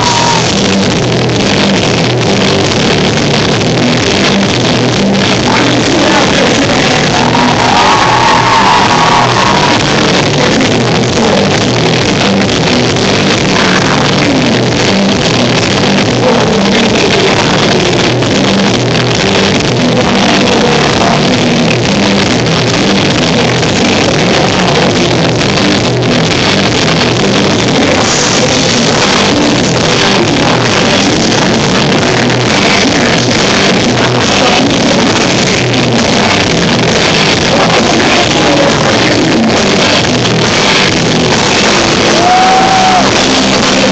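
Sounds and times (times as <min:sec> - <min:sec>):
rock band playing live: 0:00.0 - 0:43.9.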